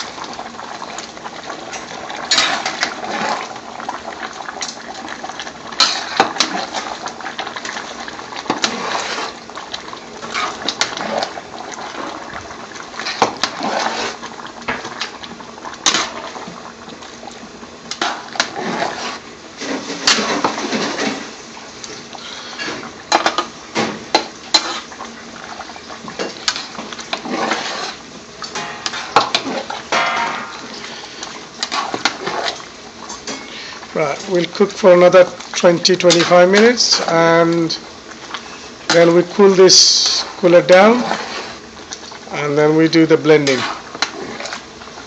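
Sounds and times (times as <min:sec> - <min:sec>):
gravy sloshing and squelching: 0:00.0 - 0:45.0.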